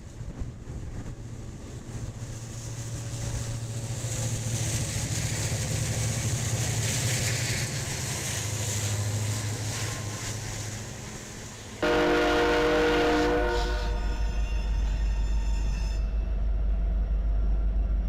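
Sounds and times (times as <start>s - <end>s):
train rolling hiss: 0.0s - 16.0s
diesel locomotive engine humming: 0.0s - 18.0s.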